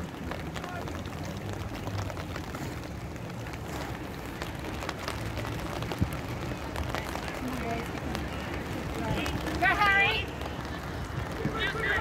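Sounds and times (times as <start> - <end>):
heavy rain falling: 0.0 - 12.0
raindrop ticks: 0.0 - 12.0.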